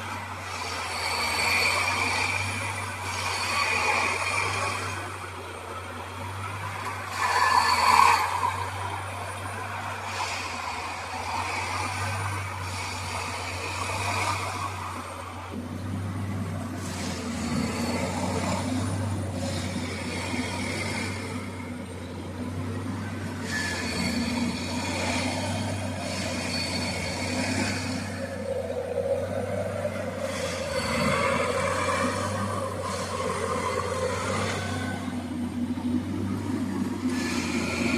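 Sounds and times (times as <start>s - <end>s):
diesel engine humming: 0.0s - 37.9s.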